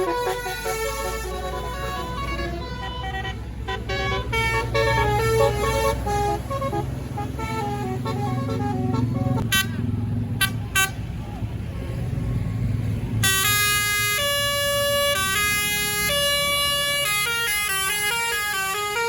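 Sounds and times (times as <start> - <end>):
bus horn playing a melody: 0.0 - 11.2, 13.1 - 19.0
bus engine drone: 0.0 - 19.0.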